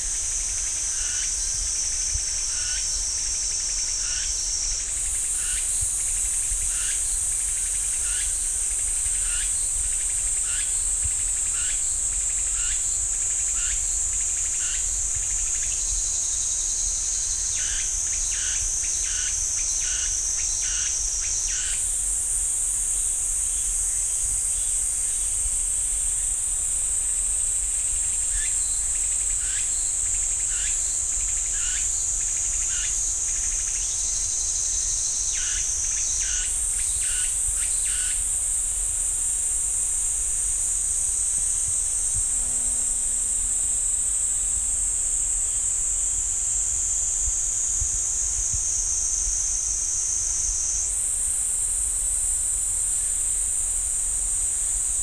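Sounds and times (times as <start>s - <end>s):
short pulsing insect calls: 0.0s - 51.6s
cicadas droning: 0.0s - 55.0s.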